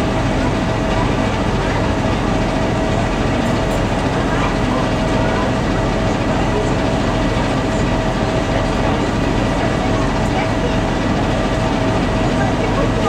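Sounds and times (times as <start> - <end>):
boat diesel engine drone: 0.0 - 13.0.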